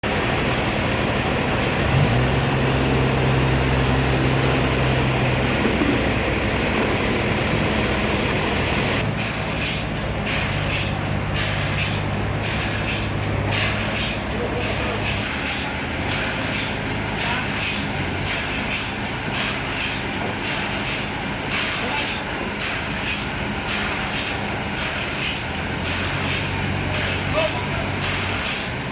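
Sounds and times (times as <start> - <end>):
sawmill machinery humming: 0.0 - 28.9.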